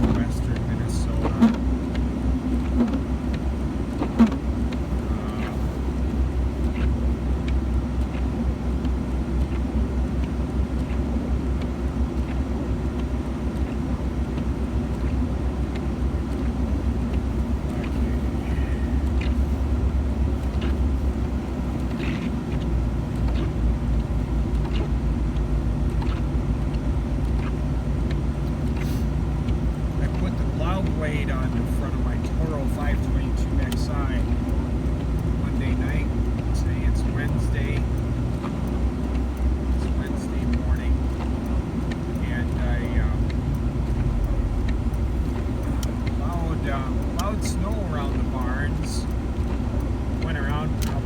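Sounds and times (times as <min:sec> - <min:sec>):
engine and tyre drone: 0:00.0 - 0:51.0.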